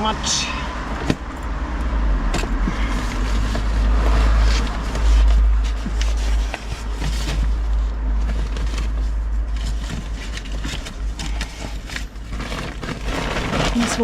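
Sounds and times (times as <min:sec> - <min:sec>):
notebooks and bags rustling: 0:02.3 - 0:14.0.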